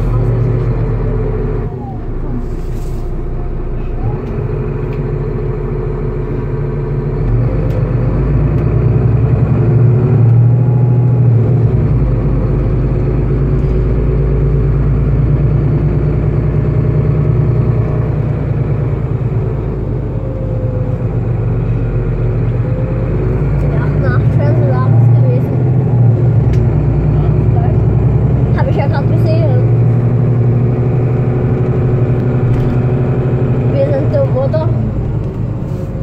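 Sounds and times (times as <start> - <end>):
bus engine hum: 0.0 - 36.0
road noise: 0.0 - 36.0.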